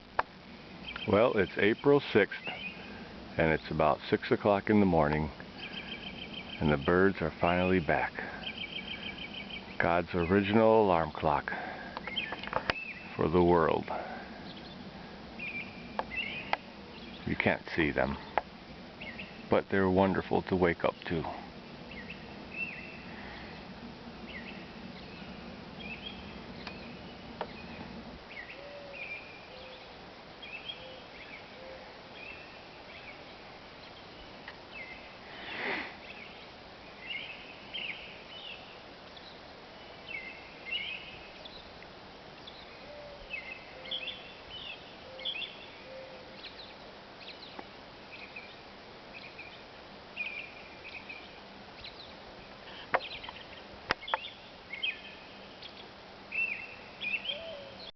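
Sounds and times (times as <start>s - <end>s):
faint low hum: 0.0s - 57.9s
songbirds chirping and trilling: 0.0s - 57.9s.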